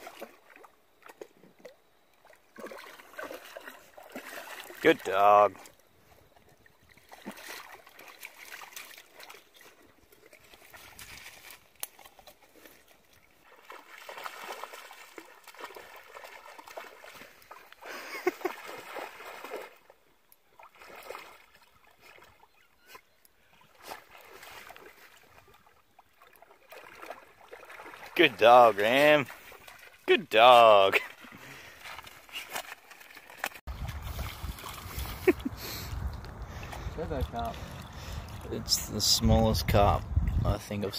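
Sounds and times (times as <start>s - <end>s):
dog splashing through water: 0.0s - 5.8s, 6.4s - 22.5s, 23.6s - 30.0s, 31.0s - 38.6s.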